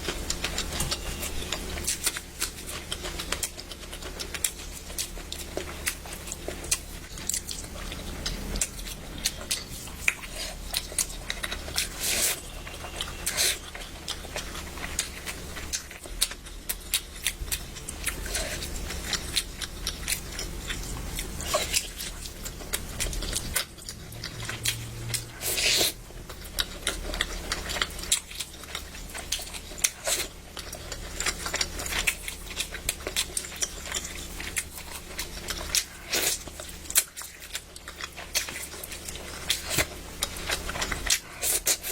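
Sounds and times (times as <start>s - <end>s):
person chewing and biting: 0.0s - 41.9s
steady low hum: 0.0s - 41.9s.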